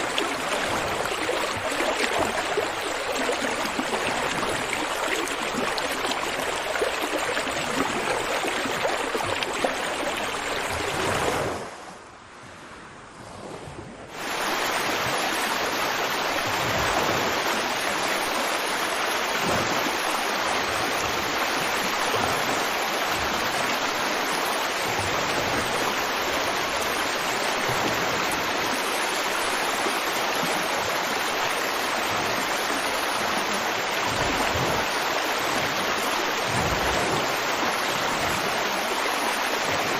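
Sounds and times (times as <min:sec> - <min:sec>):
river water flowing: 0:00.0 - 0:11.8, 0:14.1 - 0:39.9.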